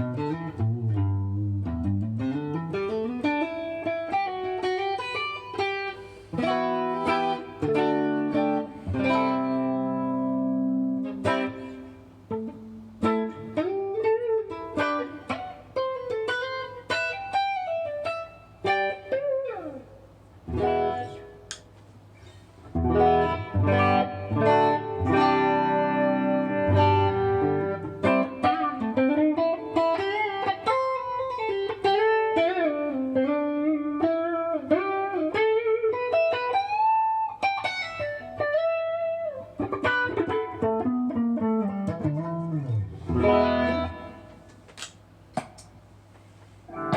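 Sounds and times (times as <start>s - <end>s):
electric guitar ringing chords: 0.0s - 19.9s, 20.5s - 21.6s, 22.7s - 44.7s
electric guitar lead lines: 0.0s - 46.9s.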